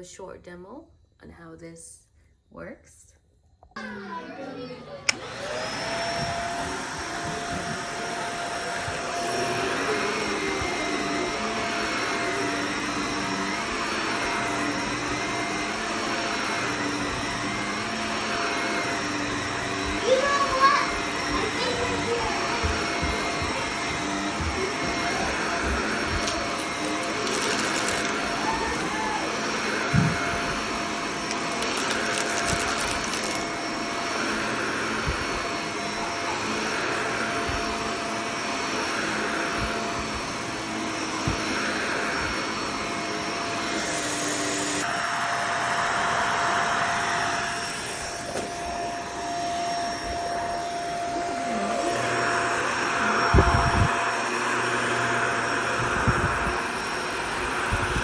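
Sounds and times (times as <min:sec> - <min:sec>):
upright vacuum running: 0:03.8 - 0:58.0.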